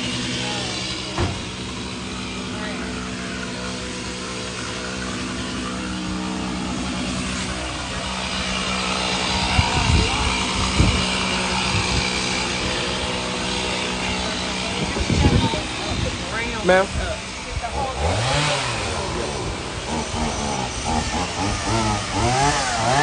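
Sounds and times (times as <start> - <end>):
motor humming: 0.0 - 23.0.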